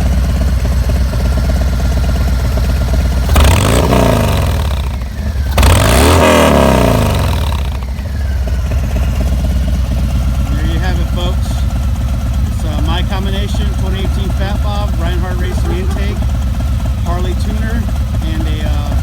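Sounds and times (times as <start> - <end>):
motorcycle engine idling: 0.0 - 19.0
motorcycle engine revving: 0.0 - 19.0.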